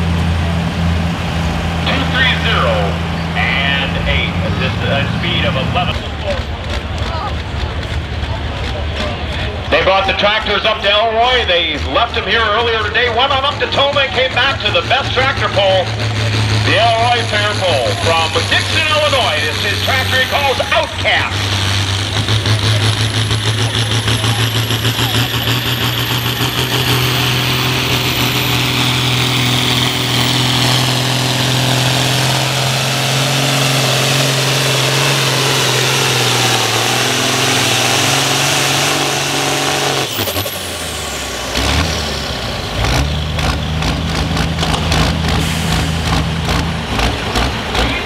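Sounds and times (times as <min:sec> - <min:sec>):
diesel engine under load: 0:00.0 - 0:48.0.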